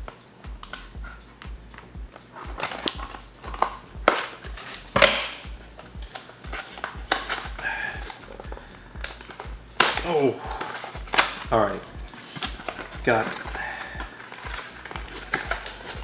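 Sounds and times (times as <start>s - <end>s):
foil wrapper crinkling: 2.2s - 16.0s.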